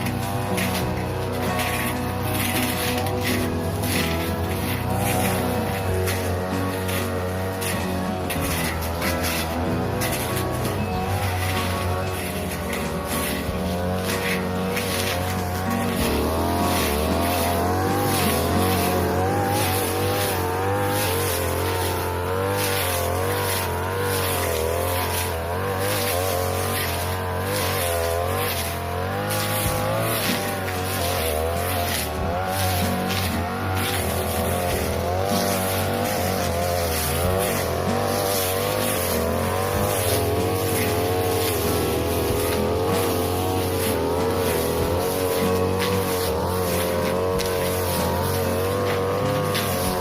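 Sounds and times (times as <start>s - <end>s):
brush cutter cutting grass: 0.0s - 50.0s.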